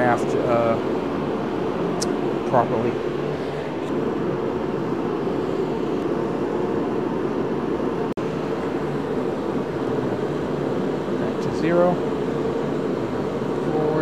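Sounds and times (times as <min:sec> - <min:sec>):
heater fan droning: 0:00.0 - 0:14.0.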